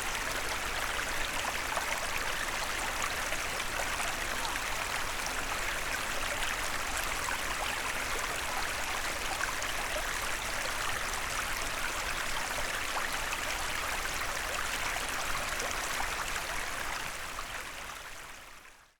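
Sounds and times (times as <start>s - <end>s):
stream water trickling: 0.0s - 18.7s.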